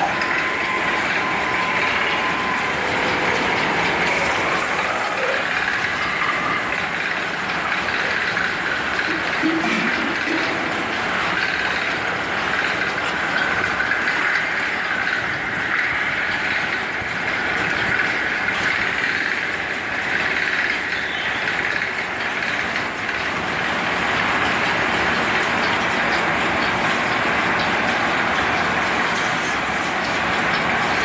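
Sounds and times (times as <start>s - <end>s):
metalworking machine running: 0.0s - 31.0s.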